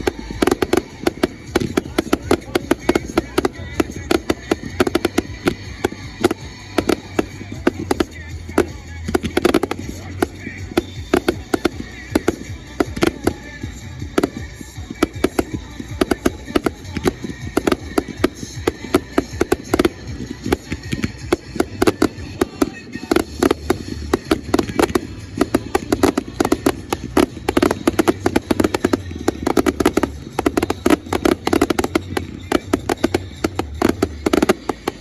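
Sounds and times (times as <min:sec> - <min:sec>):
fireworks cracks and bangs: 0:00.0 - 0:35.0.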